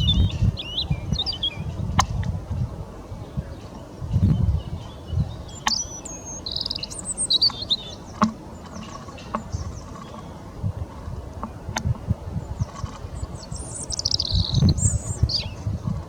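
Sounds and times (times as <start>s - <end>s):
low uneven rumble: 0.0s - 16.0s
small birds chirping: 0.0s - 16.0s.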